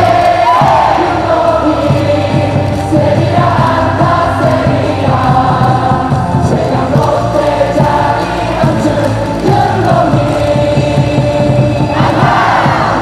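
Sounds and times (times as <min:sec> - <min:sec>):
cheer song over stadium speakers: 0:00.0 - 0:13.0
crowd singing in unison: 0:00.0 - 0:13.0.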